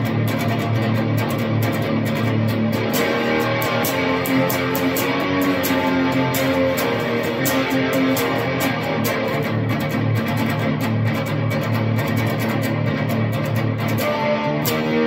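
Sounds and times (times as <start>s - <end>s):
distorted electric guitar riff: 0.0s - 15.0s.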